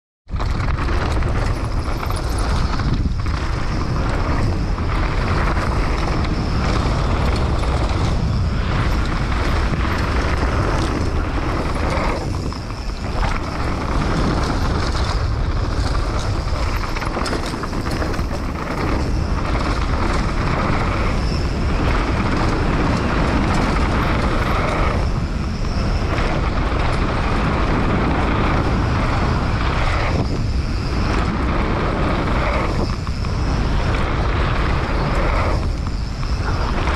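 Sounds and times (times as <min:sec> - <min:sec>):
tyres on dirt trail: 0:00.3 - 0:36.9
wind rushing over microphone: 0:00.3 - 0:36.9.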